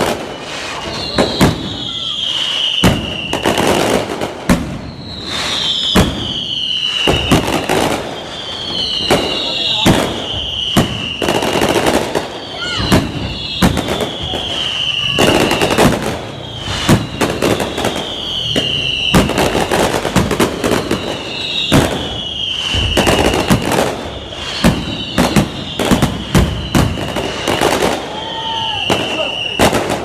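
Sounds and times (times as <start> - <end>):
firework bangs and crackles: 0.0 - 30.0
firework whistle sliding down: 0.0 - 30.0.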